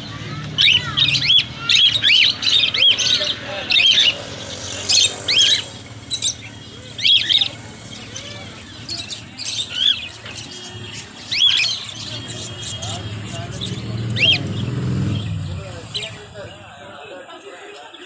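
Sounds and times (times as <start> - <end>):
budgerigars chirping and squawking: 0.4 - 17.1.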